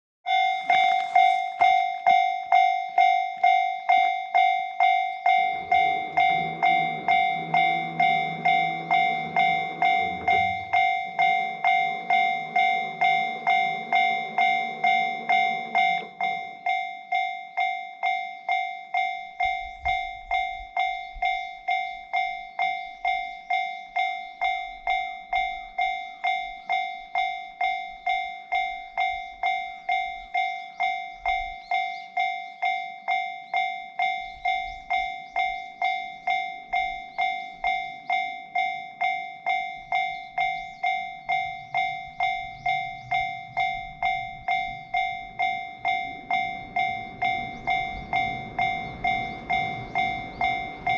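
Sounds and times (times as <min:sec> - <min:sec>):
level crossing alarm bell ringing: 0:00.2 - 0:50.9
train rumbling over crossing: 0:00.3 - 0:50.9.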